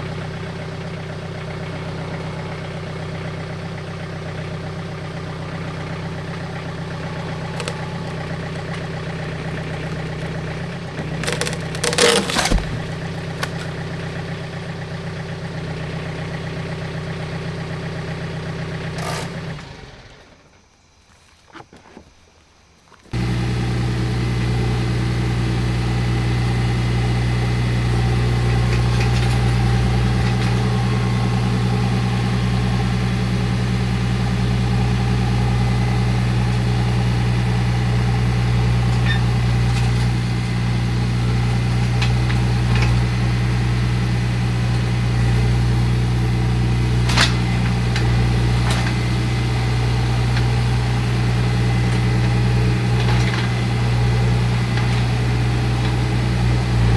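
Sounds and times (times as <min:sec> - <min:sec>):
tractor diesel engine running: 0:00.0 - 0:20.7, 0:23.1 - 0:56.9.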